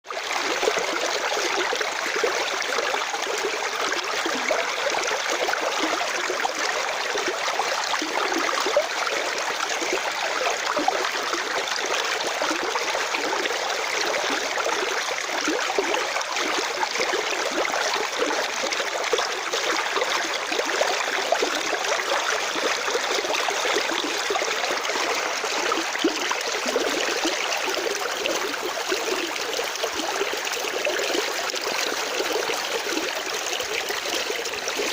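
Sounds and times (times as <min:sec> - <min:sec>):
stream babbling over rocks: 0:00.1 - 0:34.9.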